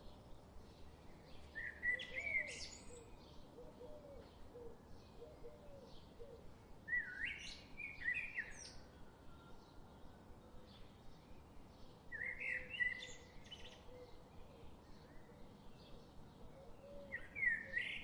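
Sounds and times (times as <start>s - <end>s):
bird song phrases: 0.0s - 18.0s
faint bird chirping: 0.0s - 18.0s.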